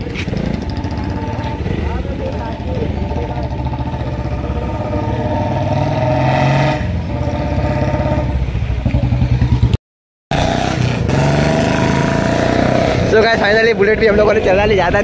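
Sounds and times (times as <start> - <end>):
motorcycle engine pulling away: 0.0 - 14.3.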